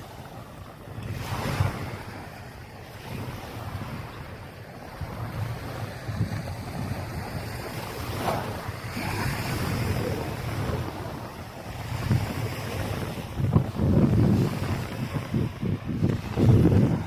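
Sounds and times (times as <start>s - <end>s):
small waves washing on sand: 0.0s - 17.0s
wind buffeting microphone: 0.0s - 17.0s.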